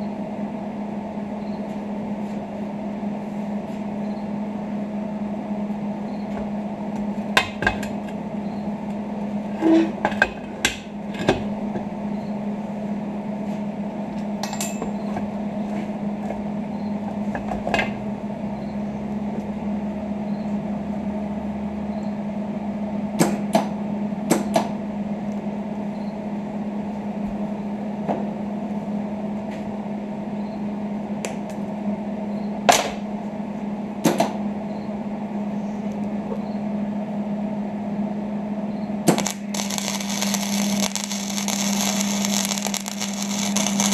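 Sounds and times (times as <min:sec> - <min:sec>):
steady electric hum: 0:00.0 - 0:43.9.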